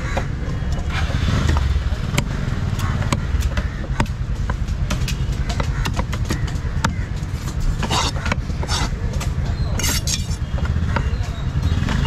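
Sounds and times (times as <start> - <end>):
low background rumble: 0.0 - 12.0
knife chopping on wooden block: 1.5 - 11.2.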